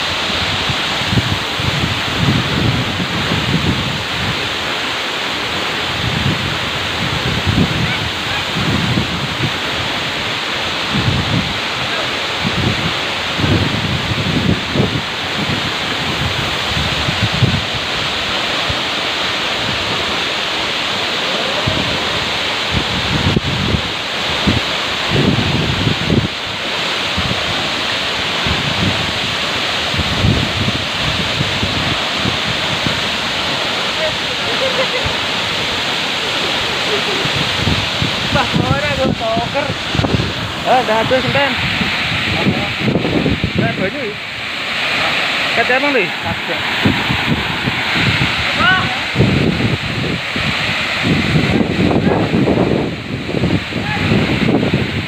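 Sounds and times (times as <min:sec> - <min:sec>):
wind buffeting microphone: 0:00.0 - 0:04.8, 0:05.5 - 0:55.0
waterfall rushing: 0:00.0 - 0:55.0.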